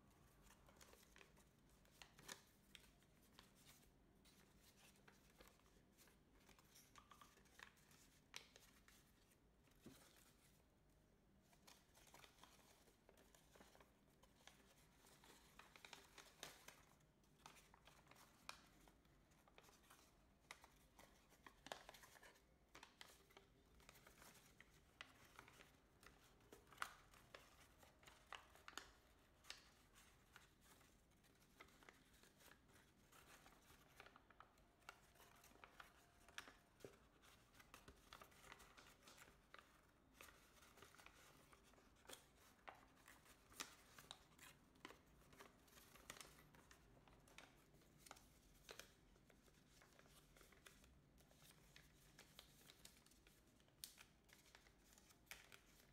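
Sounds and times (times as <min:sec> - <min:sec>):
paper crinkling as it is folded: 0:00.0 - 0:55.9.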